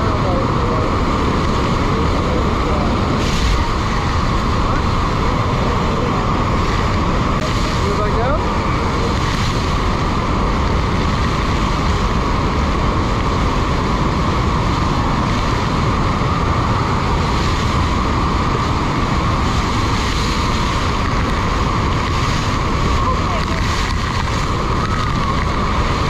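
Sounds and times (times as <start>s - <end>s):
waterfall rushing: 0.0s - 26.0s
wind buffeting microphone: 0.0s - 26.0s.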